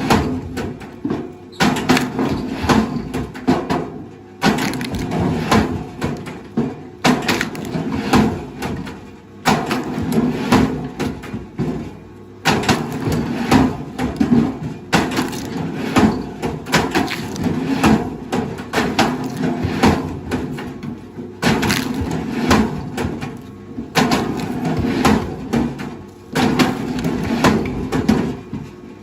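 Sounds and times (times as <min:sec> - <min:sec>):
wood cracking and splintering: 0:01.6 - 0:11.9, 0:12.5 - 0:28.1.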